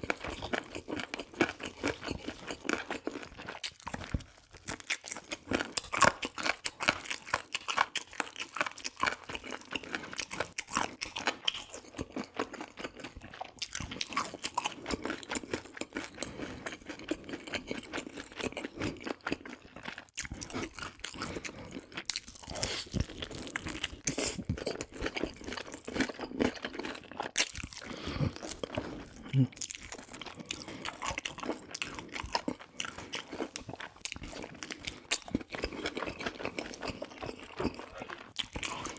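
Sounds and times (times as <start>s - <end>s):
crunching and chewing fried food: 0.0s - 38.9s.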